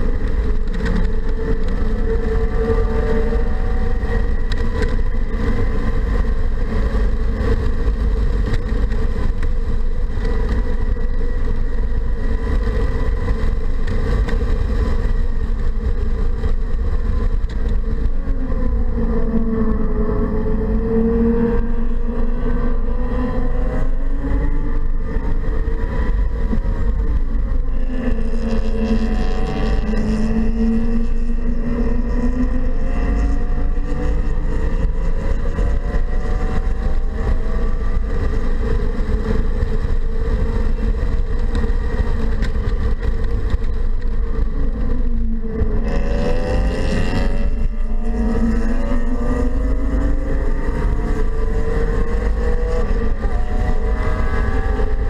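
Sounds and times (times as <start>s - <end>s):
car engine rising and falling: 0.0s - 55.0s
road and wind rumble: 0.0s - 55.0s.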